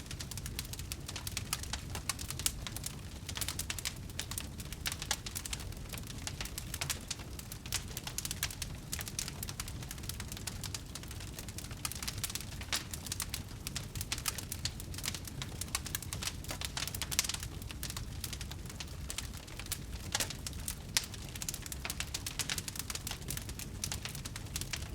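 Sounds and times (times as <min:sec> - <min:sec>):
fire low rumble: 0:00.0 - 0:24.9
wood fire crackling and popping: 0:00.0 - 0:24.9.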